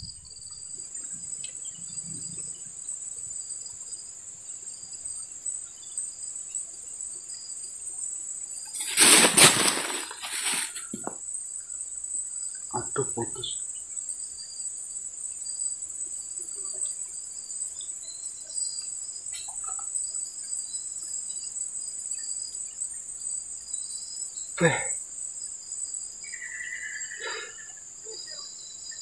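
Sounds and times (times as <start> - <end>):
insect chorus chirring: 0.0 - 29.0.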